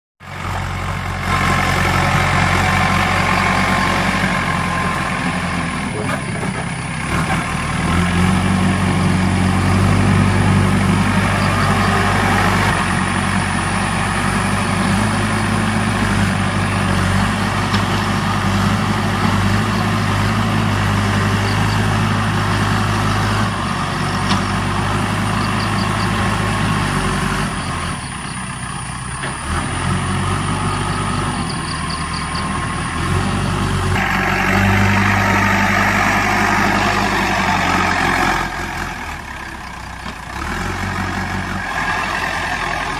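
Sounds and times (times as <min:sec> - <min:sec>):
backhoe diesel engine running: 0:00.2 - 0:42.9.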